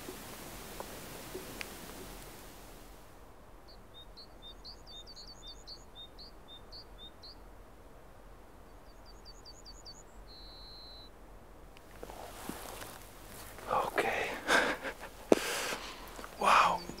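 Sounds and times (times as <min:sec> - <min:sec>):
faint outdoor hiss: 0:00.0 - 0:17.0
songbird chirping: 0:00.0 - 0:17.0.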